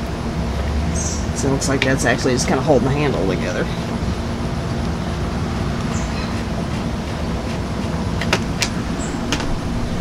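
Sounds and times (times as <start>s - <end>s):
faint steady hum: 0.0s - 10.0s
low background rumble: 0.0s - 10.0s.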